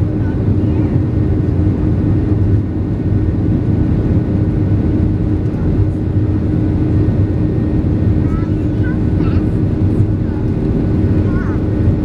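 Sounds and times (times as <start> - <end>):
jet engine cabin hum: 0.0 - 12.0.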